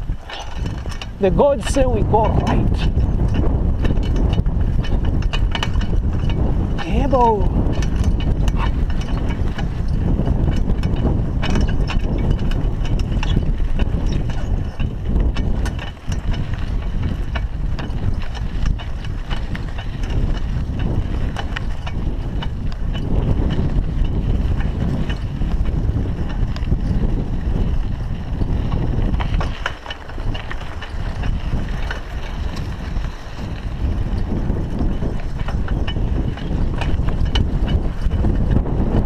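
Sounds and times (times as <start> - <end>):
bike frame rattling: 0.0 - 39.0
bike rolling over dirt track: 0.0 - 39.0
wind on microphone: 0.0 - 39.0.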